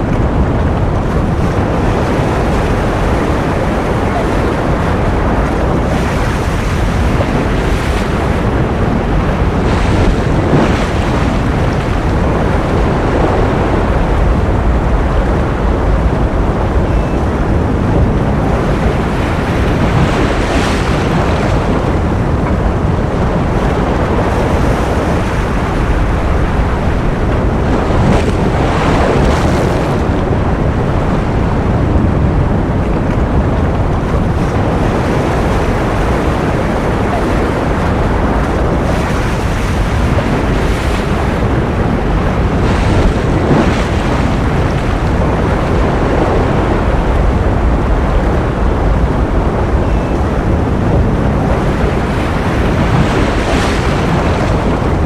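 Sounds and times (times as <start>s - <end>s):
ocean surf: 0.0s - 55.0s.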